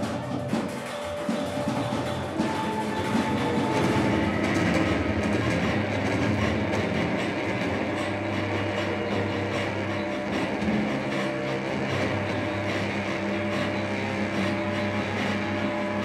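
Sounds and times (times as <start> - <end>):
steady low drone: 0.0 - 16.0.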